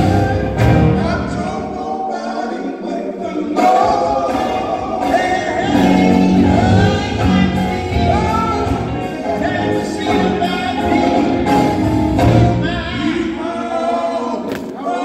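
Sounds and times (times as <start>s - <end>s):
live band playing: 0.0s - 2.4s, 3.0s - 13.7s
man singing: 0.8s - 15.0s.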